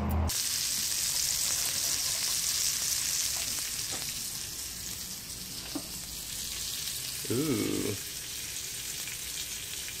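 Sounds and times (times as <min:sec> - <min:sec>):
fish sizzling in hot oil: 0:00.3 - 0:10.0.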